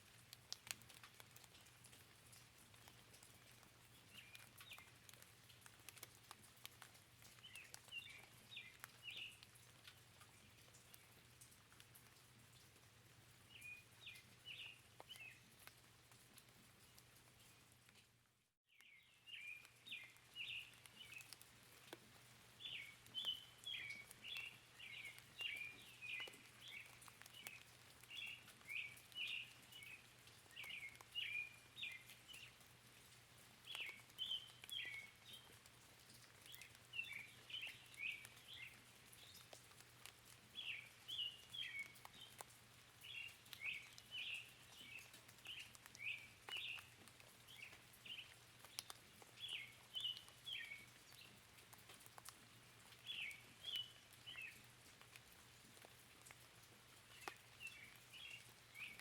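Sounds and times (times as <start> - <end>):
faint rain pattering: 0.0 - 59.0
songbird chirping: 2.8 - 11.5, 13.4 - 15.8, 18.7 - 59.0.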